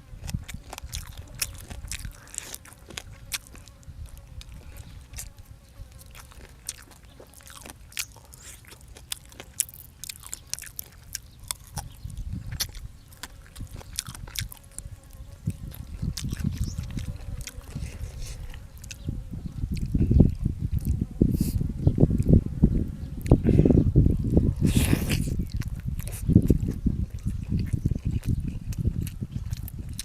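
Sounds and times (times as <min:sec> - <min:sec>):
person chewing crunchy food: 0:00.0 - 0:21.6, 0:24.1 - 0:30.0.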